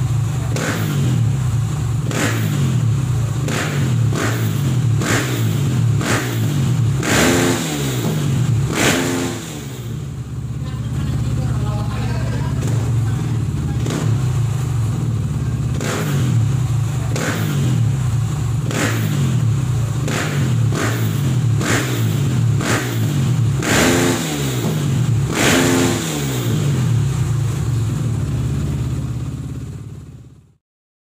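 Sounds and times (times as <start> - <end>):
motorcycle engine revving: 0.0 - 30.6.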